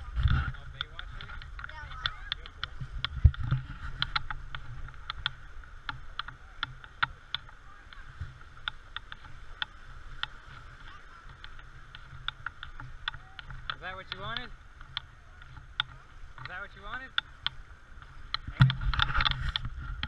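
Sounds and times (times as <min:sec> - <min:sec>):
wind rumble on microphone: 0:00.0 - 0:20.0
sharp ticks: 0:00.2 - 0:20.0.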